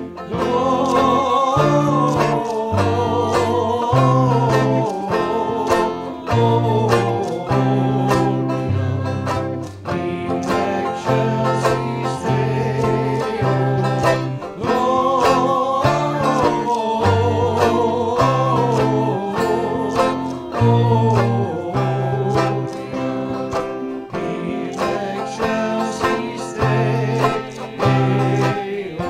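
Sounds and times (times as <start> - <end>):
plucked string music: 0.0 - 29.0.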